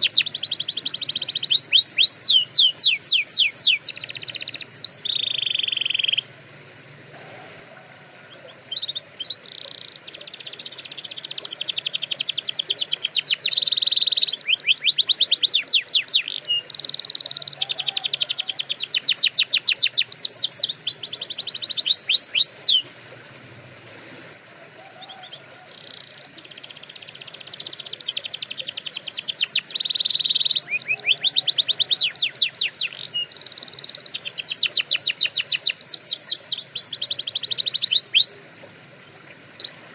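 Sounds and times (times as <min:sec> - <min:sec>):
canary singing trills: 0:00.0 - 0:06.3, 0:08.2 - 0:22.9, 0:24.9 - 0:38.4.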